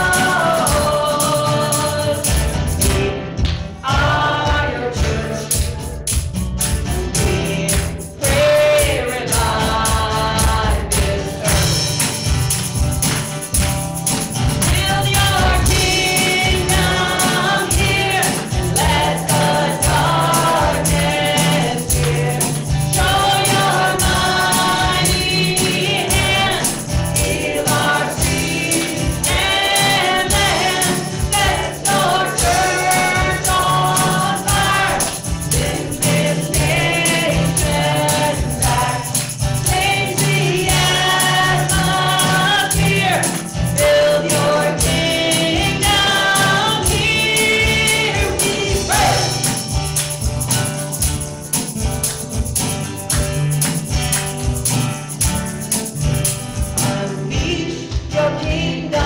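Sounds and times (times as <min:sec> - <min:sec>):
voices singing together: 0:00.0 - 0:06.1, 0:06.7 - 0:13.2, 0:14.2 - 0:50.2, 0:56.8 - 0:59.0
band with bass and beat: 0:00.0 - 0:59.0.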